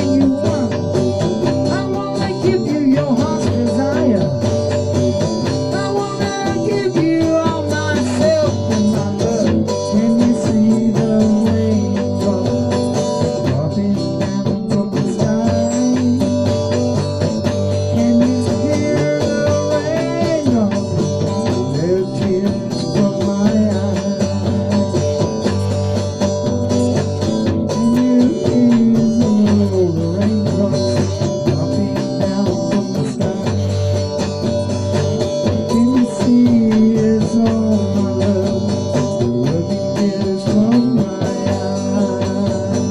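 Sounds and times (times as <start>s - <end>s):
blues electric guitar: 0.0s - 42.9s
man singing: 0.0s - 42.9s.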